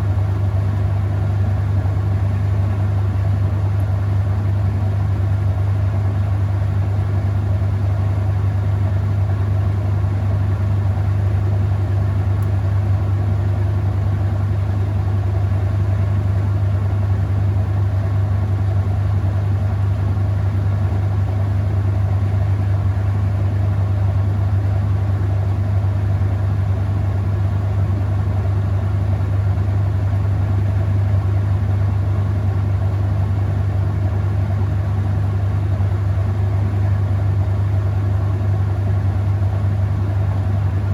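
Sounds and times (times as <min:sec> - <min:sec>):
washing machine spinning hum: 0:00.0 - 0:40.9.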